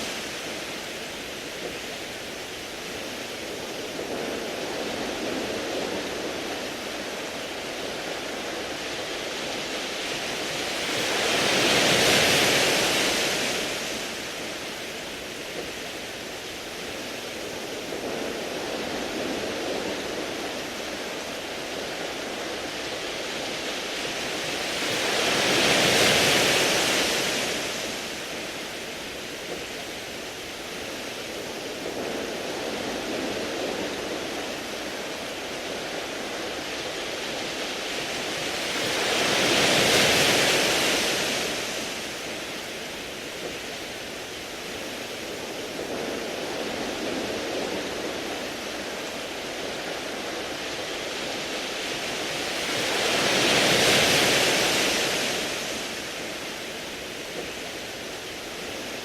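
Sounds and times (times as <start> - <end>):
waves washing over pebbles: 0.0 - 59.0.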